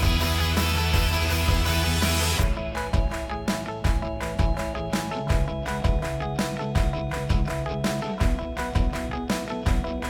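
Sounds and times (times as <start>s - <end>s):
music with heavy bass beat: 0.0s - 10.0s.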